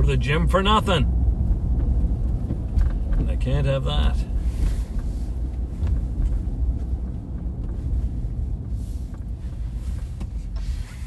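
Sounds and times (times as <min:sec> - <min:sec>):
car engine rumble: 0:00.0 - 0:11.0
tyres on road: 0:00.0 - 0:11.0.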